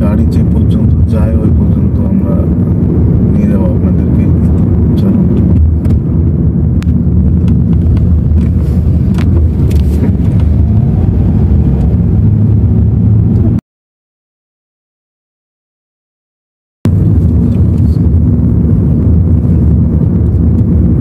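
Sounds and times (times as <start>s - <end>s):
car engine and road rumble: 0.0s - 13.6s, 16.9s - 21.0s.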